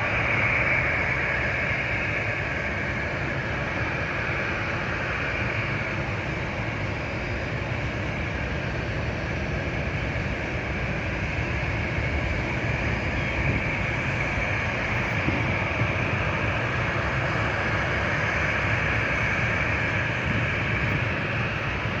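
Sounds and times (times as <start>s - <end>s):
jet engines rushing with whine: 0.0s - 22.0s.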